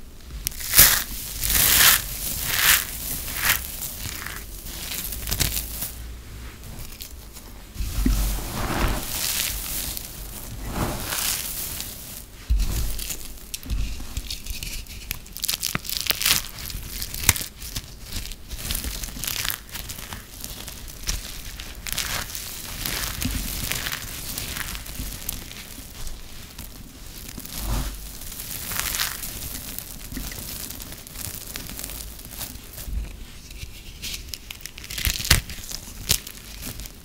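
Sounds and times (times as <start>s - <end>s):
crumbly soap crackling: 0.0s - 37.0s.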